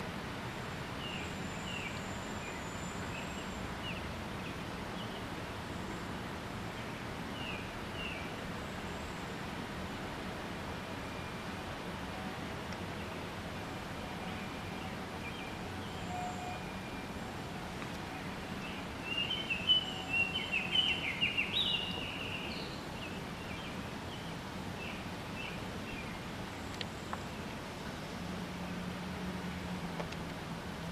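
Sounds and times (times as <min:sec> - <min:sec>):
steady outdoor hiss: 0:00.0 - 0:30.9.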